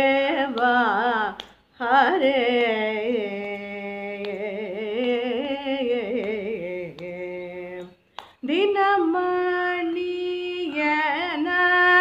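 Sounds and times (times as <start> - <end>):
woman singing devotional song: 0.0 - 12.0.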